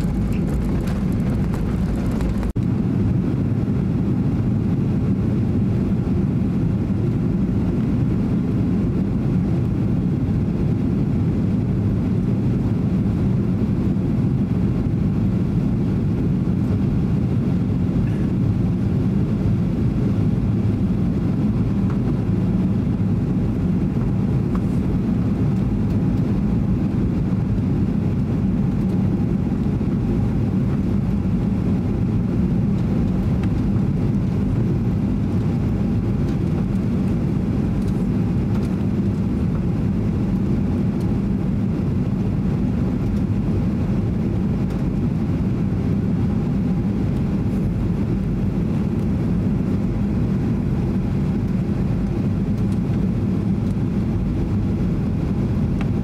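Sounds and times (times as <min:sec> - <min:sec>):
airflow rush in plane cabin: 0:00.0 - 0:56.0
jet engines droning: 0:00.0 - 0:56.0.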